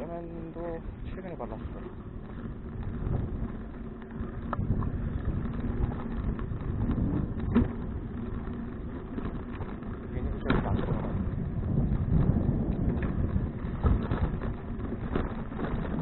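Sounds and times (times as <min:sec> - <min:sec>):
bicycle road rumble: 0:00.0 - 0:16.0
wind buffeting microphone: 0:00.0 - 0:16.0.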